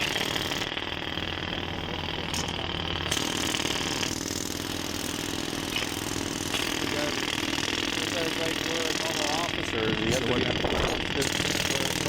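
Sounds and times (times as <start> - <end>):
engine idling: 0.8 - 12.0.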